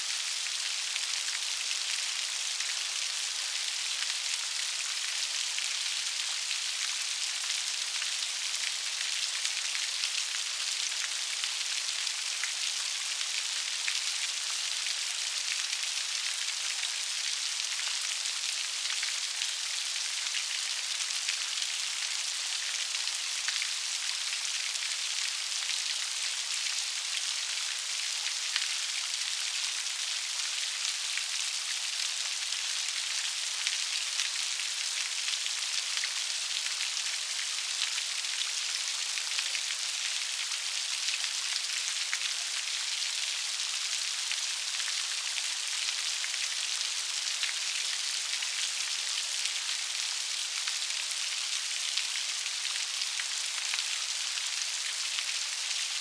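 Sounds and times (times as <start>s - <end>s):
steady rain pattering: 0.0s - 56.0s.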